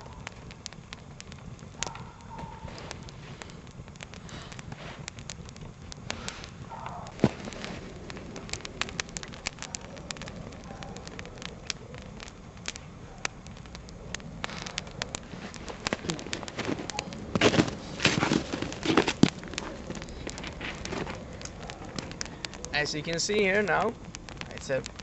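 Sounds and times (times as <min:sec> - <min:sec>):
campfire crackling: 0:00.0 - 0:25.0
sharp pops from fire: 0:00.0 - 0:25.0
thumps from fire: 0:00.0 - 0:25.0.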